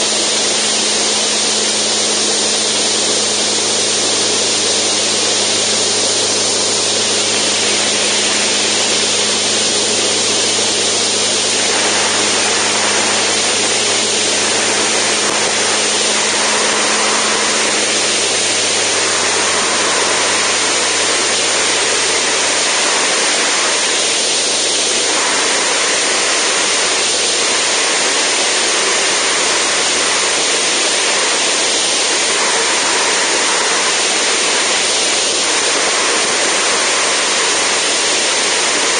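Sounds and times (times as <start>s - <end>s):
aircraft engine drone: 0.0s - 38.9s
rushing wind noise: 0.0s - 38.9s.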